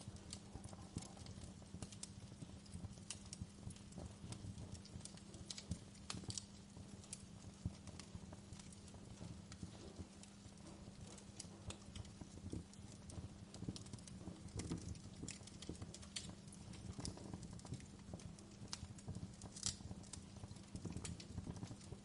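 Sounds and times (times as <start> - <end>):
fire pops and snaps: 0.0 - 22.0
wood fire crackling: 0.0 - 22.0.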